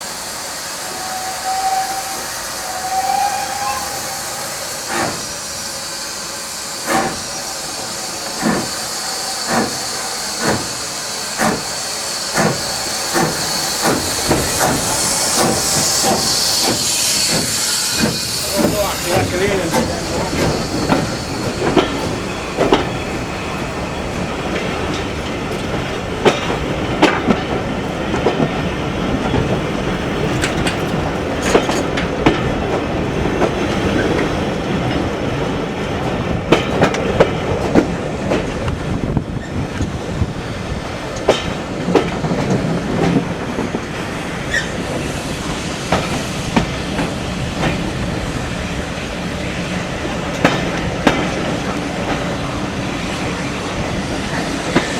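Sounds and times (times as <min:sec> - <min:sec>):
train wheels rumbling on track: 0:00.0 - 0:54.9
wheels clacking over rail joints: 0:08.0 - 0:54.9.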